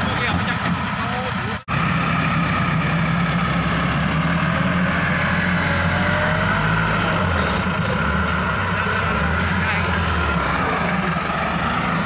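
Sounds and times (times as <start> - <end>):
tractor diesel engine working hard: 0.0 - 12.0.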